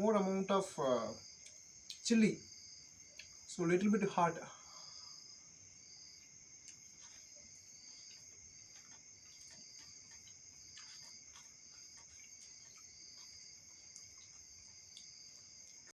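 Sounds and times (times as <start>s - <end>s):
crickets trilling: 0.0s - 15.9s.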